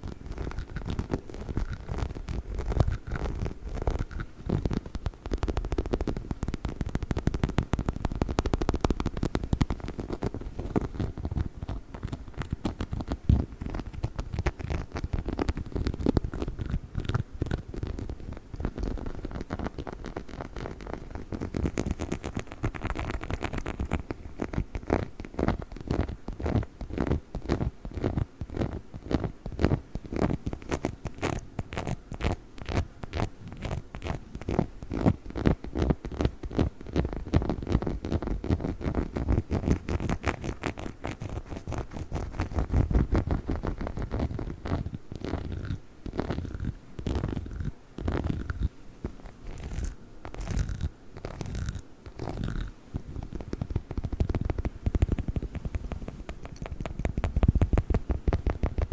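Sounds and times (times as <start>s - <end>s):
scratching and tapping on toy: 0.0s - 58.9s.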